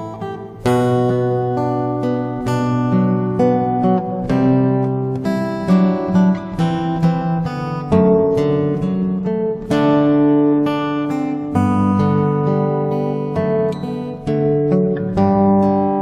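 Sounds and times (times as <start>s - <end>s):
acoustic guitar instrumental: 0.0s - 16.0s.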